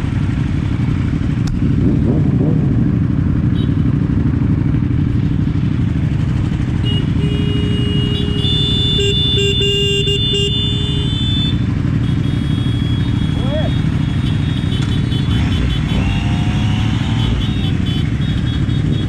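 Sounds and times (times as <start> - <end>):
motorcycle engines idling: 0.0 - 19.0.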